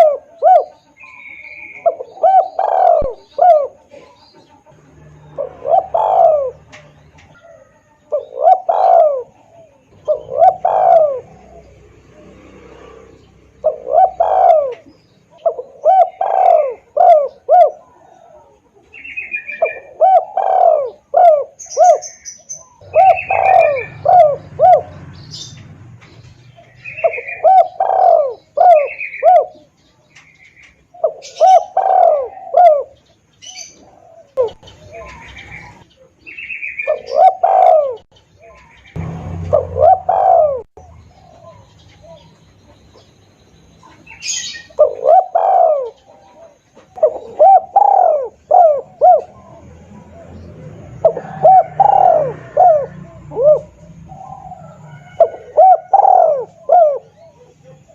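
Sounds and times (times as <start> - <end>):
doves cooing: 0.0 - 57.9.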